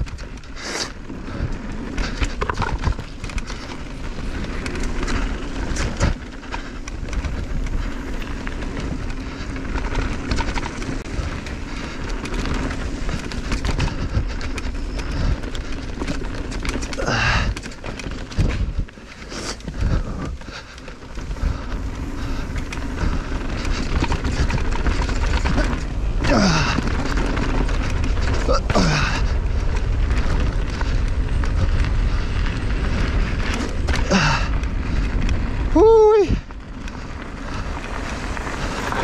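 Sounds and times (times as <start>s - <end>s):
bike knocking and rattling: 0.0s - 39.0s
bike tyres rolling on dirt: 0.0s - 39.0s.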